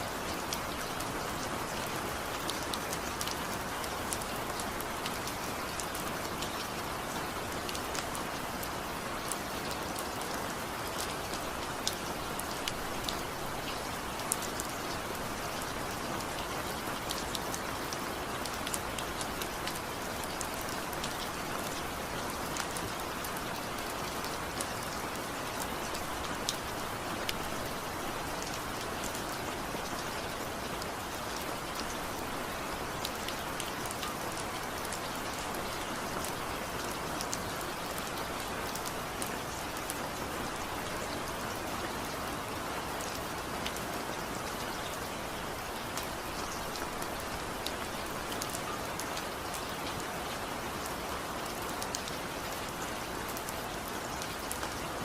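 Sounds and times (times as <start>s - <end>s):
raindrops pattering on a surface: 0.0s - 55.0s
steady rain hissing: 0.0s - 55.0s.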